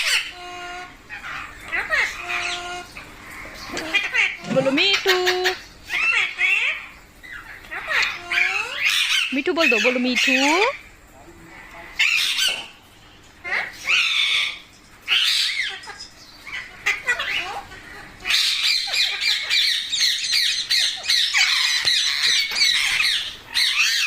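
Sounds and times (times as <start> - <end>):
parrots squawking: 0.0 - 24.0.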